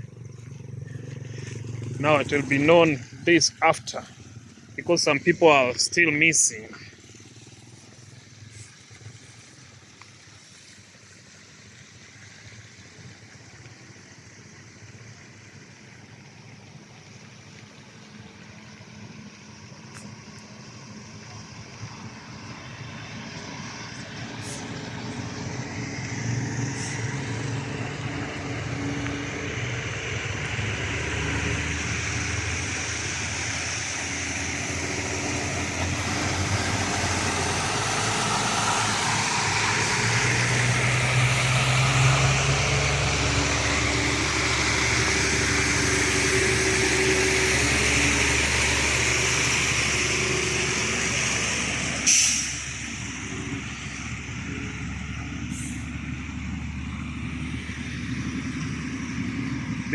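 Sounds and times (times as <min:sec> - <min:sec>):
heavy vehicle engine and tyres: 0:00.0 - 0:59.9.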